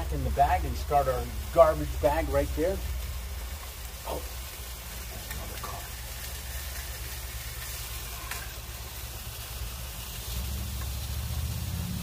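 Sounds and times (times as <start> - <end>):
burger patties frying: 0.0 - 12.0
camp stove hissing: 0.0 - 12.0.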